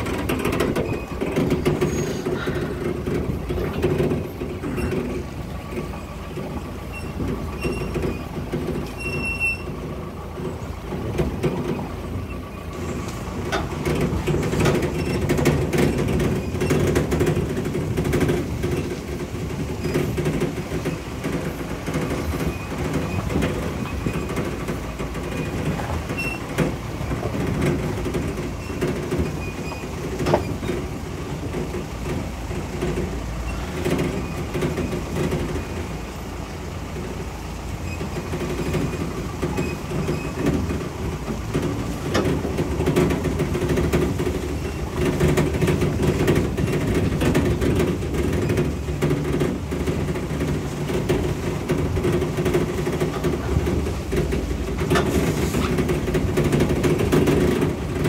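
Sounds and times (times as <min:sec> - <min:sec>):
engine and road rumble: 0:00.0 - 0:58.0
vehicle knocks and rattles over bumps: 0:00.0 - 0:58.0.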